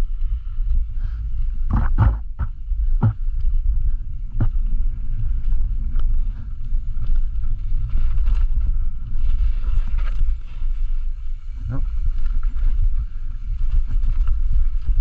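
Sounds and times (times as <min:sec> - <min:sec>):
wind rumble on microphone: 0:00.0 - 0:15.0
bike knocking and rattling: 0:00.1 - 0:15.0.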